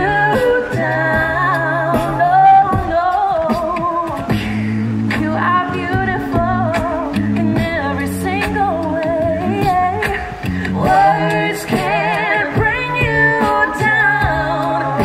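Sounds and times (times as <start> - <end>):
a cappella group singing: 0.0 - 15.0
sung bass line: 0.0 - 15.0.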